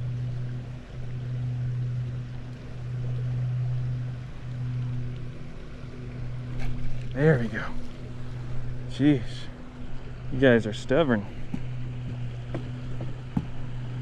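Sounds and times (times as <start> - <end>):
small motor humming: 0.0 - 14.0.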